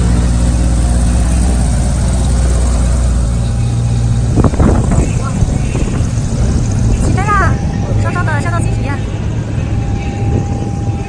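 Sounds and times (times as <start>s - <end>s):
plane engine and propeller: 0.0s - 11.0s.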